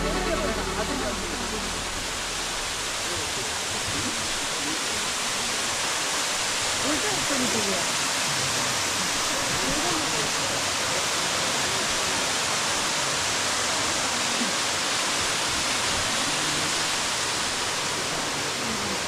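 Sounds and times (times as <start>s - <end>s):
faint voices: 0.0s - 19.0s
rushing water: 0.0s - 19.0s.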